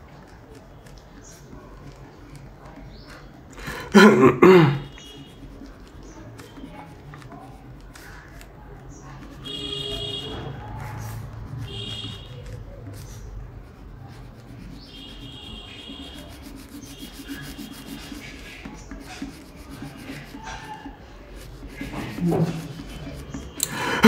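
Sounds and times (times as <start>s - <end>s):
crayon scratching on paper: 0.0s - 24.0s.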